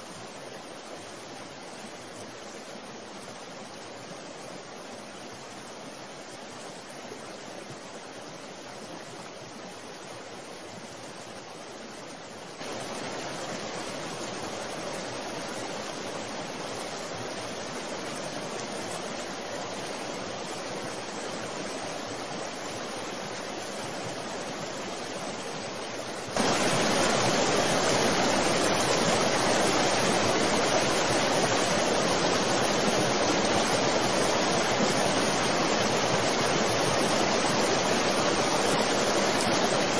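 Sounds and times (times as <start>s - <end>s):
flooded river rushing: 0.0s - 39.9s.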